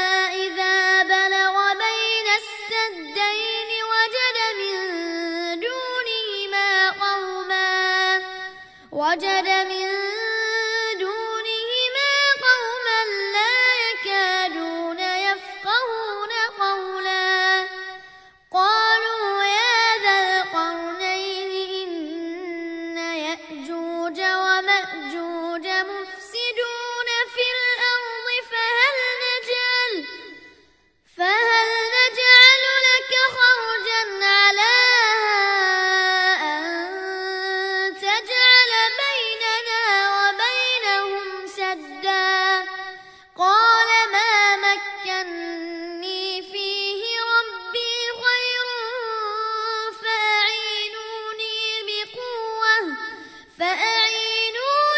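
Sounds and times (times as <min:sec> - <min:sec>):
child chanting melodically: 0:00.0 - 0:54.9.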